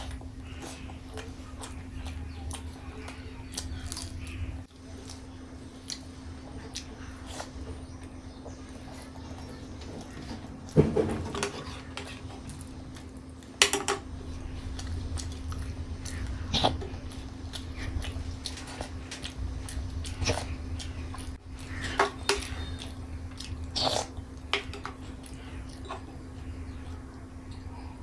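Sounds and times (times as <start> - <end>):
chewing: 0.0 - 28.0
steady low hum: 0.0 - 28.0.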